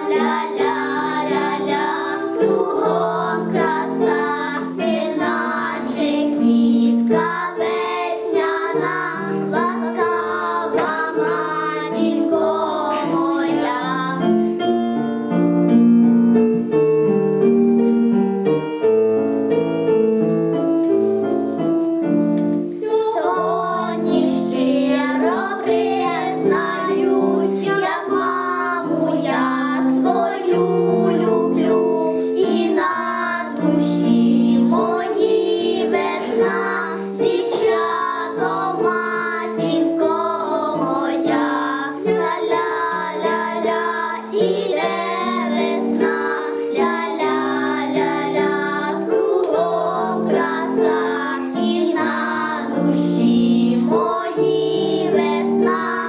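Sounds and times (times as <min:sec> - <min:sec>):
girls singing together: 0:00.0 - 0:14.3, 0:22.8 - 0:56.0
keyboard accompaniment: 0:00.0 - 0:56.0.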